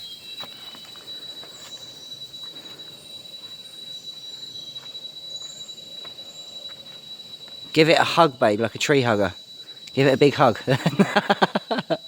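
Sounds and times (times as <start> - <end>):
insects buzzing high-pitched: 0.0 - 12.0.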